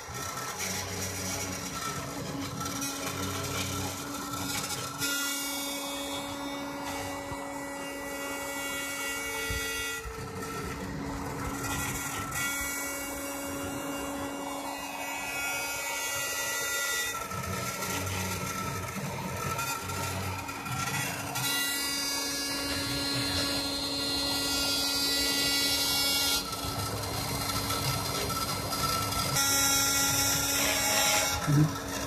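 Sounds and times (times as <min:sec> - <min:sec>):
rotary tool hum: 0:00.0 - 0:32.0
stepper motors whining: 0:00.0 - 0:32.0.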